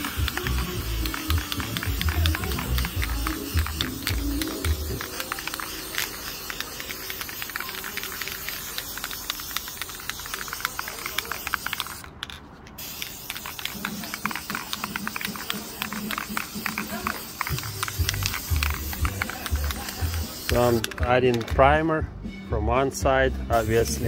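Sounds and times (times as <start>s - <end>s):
aerosol spray can hissing: 0.0s - 12.1s, 12.8s - 21.0s, 23.5s - 24.0s.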